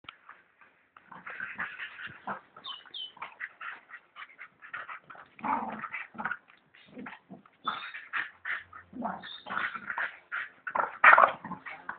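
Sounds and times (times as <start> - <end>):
dogs growling and snarling: 1.0 - 11.9.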